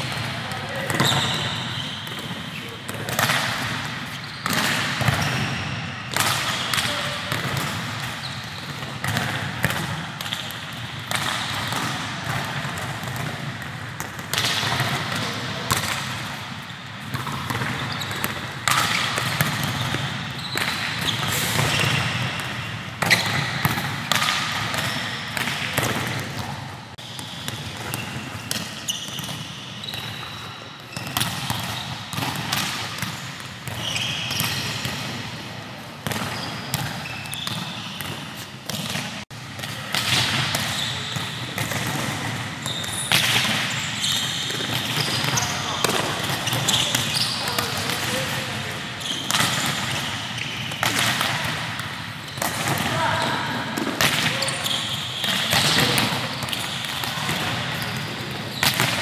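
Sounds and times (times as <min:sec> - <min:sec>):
volleyballs struck and bouncing: 0:00.0 - 0:59.0.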